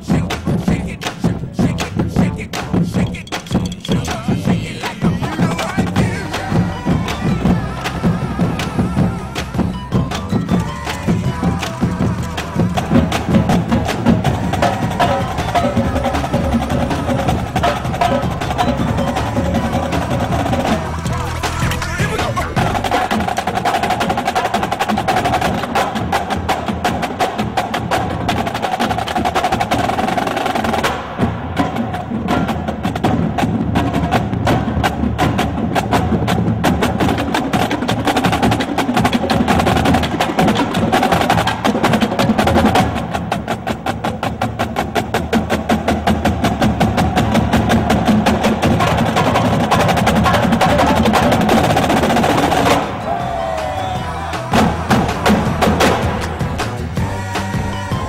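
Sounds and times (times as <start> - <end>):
fast percussion music: 0.0 - 58.0.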